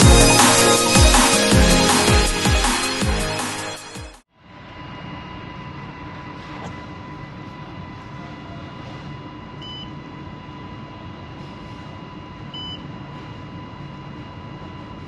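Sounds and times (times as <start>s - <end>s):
engine room machinery hum: 0.0s - 3.8s, 4.4s - 15.0s.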